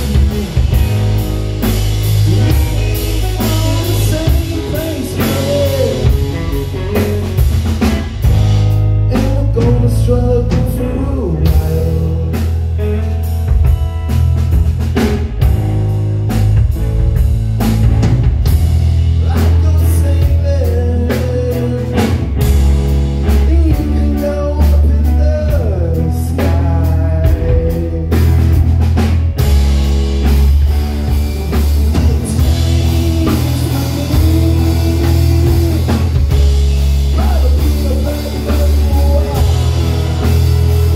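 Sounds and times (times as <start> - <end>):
electric guitar: 0.0 - 40.9
heavy bass guitar line: 0.0 - 40.9
regular drumbeat: 0.0 - 40.9.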